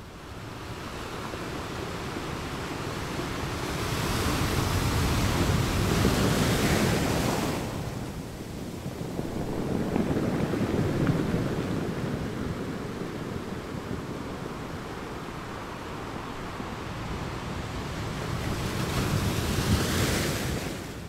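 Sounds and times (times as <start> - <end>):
sea waves surging: 0.3 - 21.0.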